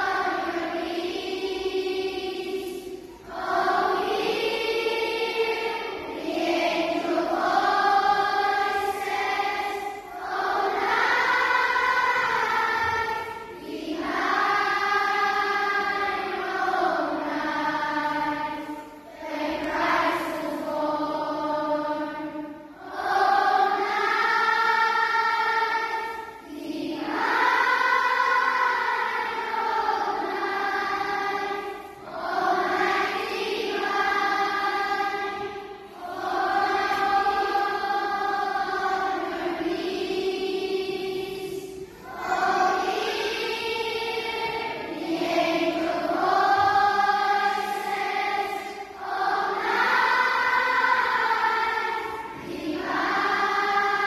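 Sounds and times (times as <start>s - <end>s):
choir singing held notes: 0.0s - 54.0s.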